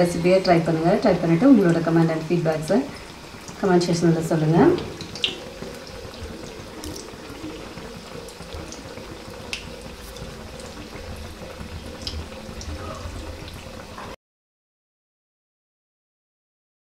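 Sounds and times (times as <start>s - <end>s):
oil sizzling in a frying pan: 0.0s - 14.2s.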